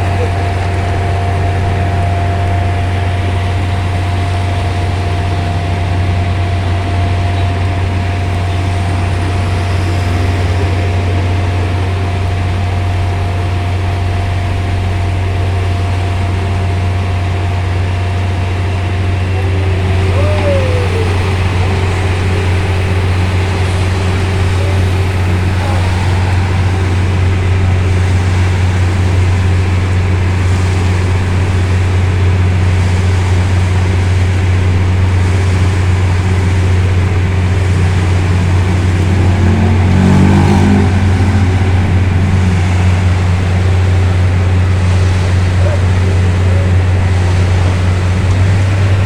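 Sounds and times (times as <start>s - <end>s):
heavy diesel engine droning: 0.0s - 49.0s.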